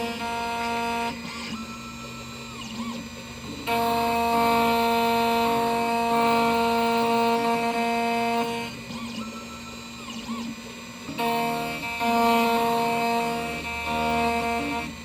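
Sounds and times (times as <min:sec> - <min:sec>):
key cutting machine whine: 0:00.0 - 0:15.0.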